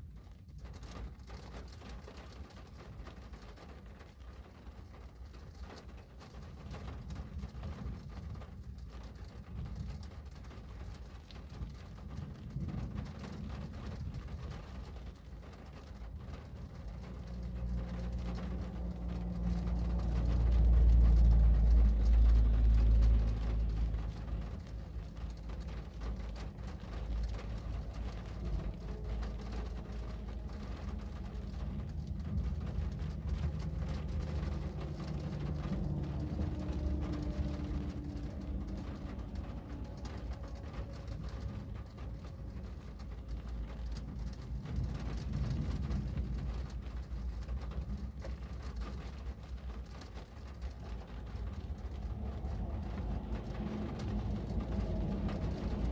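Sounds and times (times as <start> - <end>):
passing vehicle engine rumble: 0.6 - 55.9.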